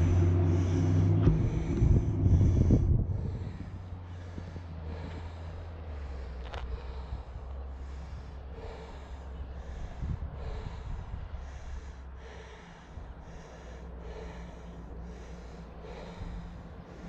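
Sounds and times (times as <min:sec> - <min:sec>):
low wind rumble: 0:00.0 - 0:17.0
person breathing heavily: 0:00.0 - 0:17.0.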